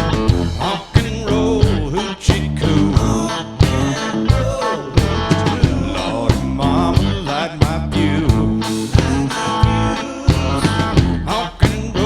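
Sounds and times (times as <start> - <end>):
drums steady beat: 0.0 - 12.0
guitar lick with bent notes: 0.0 - 12.0.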